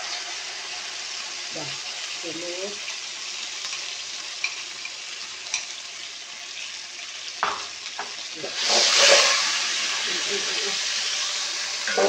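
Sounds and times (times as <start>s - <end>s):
paste frying in hot oil: 0.0s - 12.0s.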